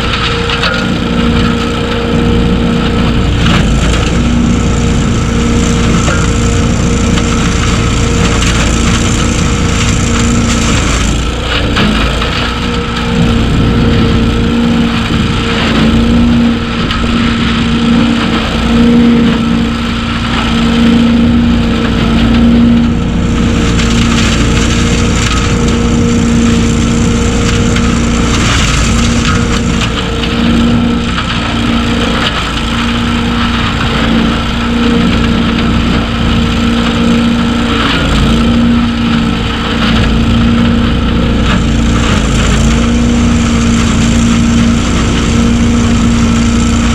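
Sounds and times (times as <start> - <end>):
leaf vacuum engine hum: 0.0 - 46.9
leaves rushing through vacuum: 0.0 - 46.9.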